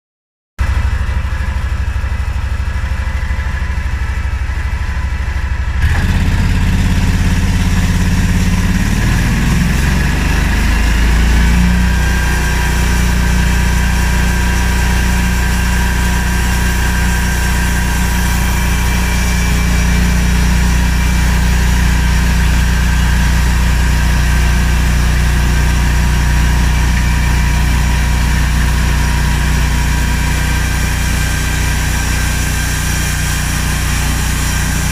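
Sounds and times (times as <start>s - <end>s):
band sawmill running: 0.6s - 34.9s
brighter running sound: 3.0s - 34.9s.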